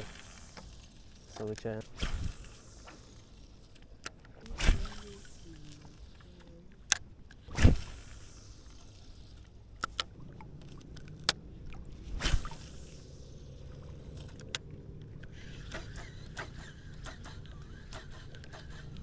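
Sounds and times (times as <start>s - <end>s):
low steady rumble: 0.0s - 19.0s
water swish: 0.0s - 19.0s.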